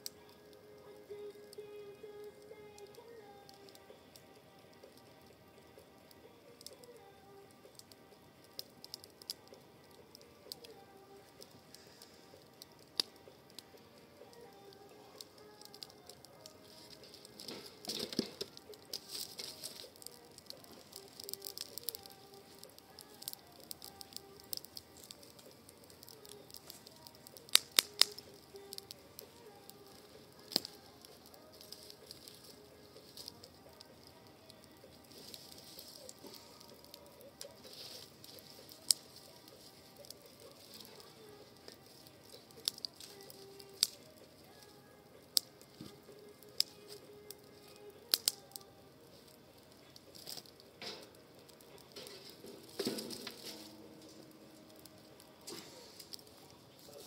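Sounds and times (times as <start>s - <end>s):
campfire crackling: 0.0s - 57.0s
sharp pops of fire: 7.4s - 57.0s.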